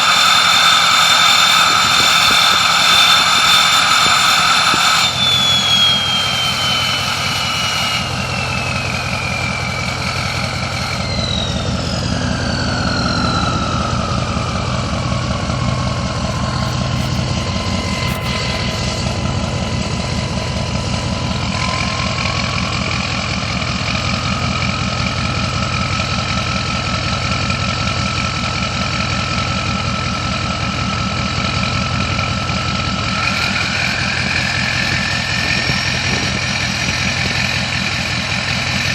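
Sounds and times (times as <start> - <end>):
turbo whistling: 0.0 - 28.3, 28.9 - 38.9
diesel engine idling: 0.0 - 38.9.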